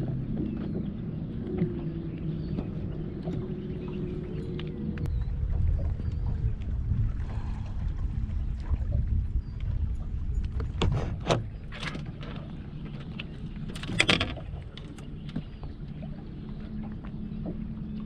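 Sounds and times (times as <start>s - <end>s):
boat engine rumble: 0.0s - 18.0s.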